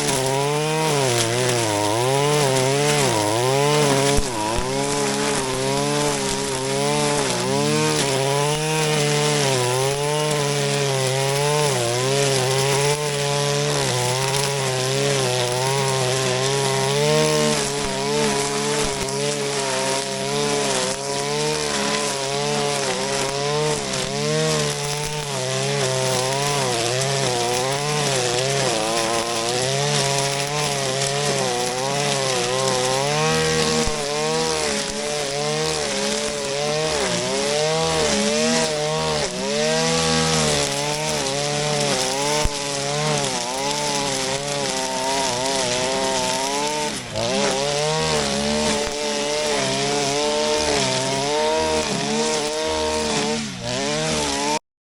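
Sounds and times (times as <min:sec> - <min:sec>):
brush cutter cutting grass: 0:00.0 - 0:54.6.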